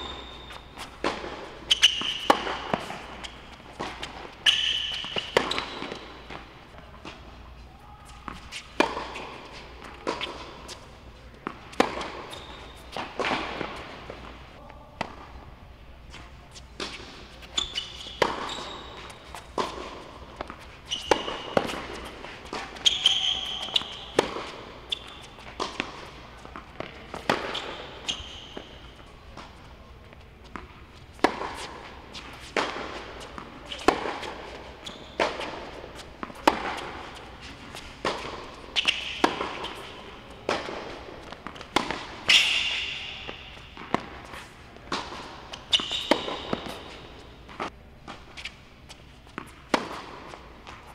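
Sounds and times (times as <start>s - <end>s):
tennis ball hits and bounces: 0.0s - 7.3s, 8.2s - 14.4s, 16.8s - 29.7s, 30.4s - 48.6s, 49.2s - 50.9s
sneaker squeaks: 0.0s - 15.3s, 16.0s - 50.9s.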